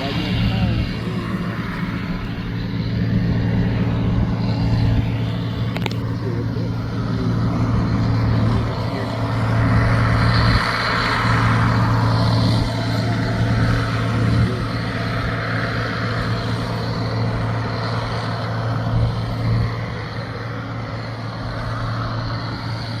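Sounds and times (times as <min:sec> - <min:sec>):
heavy engine droning: 0:00.0 - 0:23.0.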